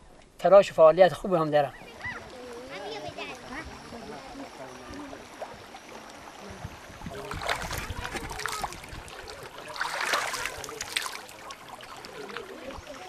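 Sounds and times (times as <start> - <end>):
water running along channel: 0.0 - 13.0
water splashing: 1.2 - 13.0.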